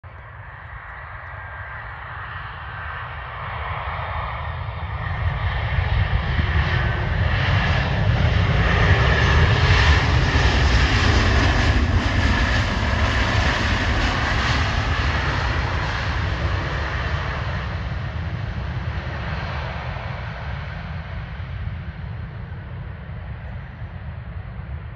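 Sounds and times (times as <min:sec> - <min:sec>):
jet airliner engine noise: 0:00.0 - 0:24.9.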